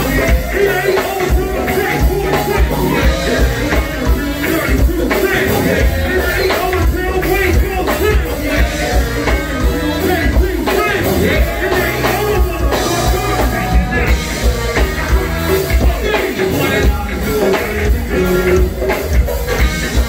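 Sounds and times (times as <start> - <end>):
people singing into microphones: 0.0 - 19.4
bass: 0.0 - 20.0
drum kit: 0.0 - 20.0
keyboard: 0.0 - 20.0.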